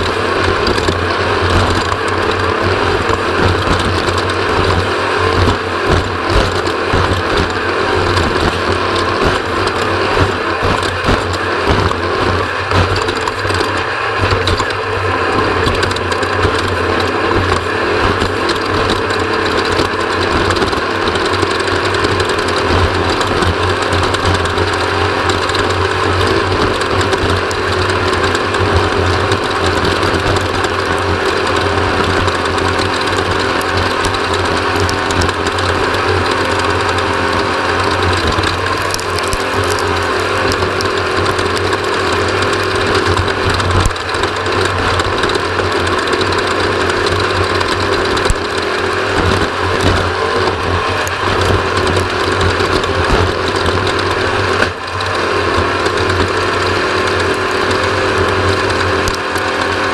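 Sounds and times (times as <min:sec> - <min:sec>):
chassis rattling: 0:00.0 - 0:59.9
race vehicle engine running hard: 0:00.0 - 0:59.9.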